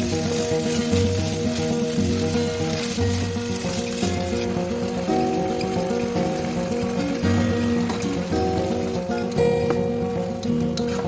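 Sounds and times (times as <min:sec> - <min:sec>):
food sizzling in a pan: 0:00.0 - 0:11.0
instrumental background music: 0:00.0 - 0:11.0.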